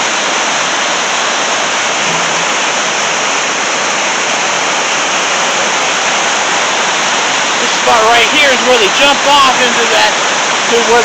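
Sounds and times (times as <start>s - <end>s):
river rapids roaring: 0.0s - 11.0s.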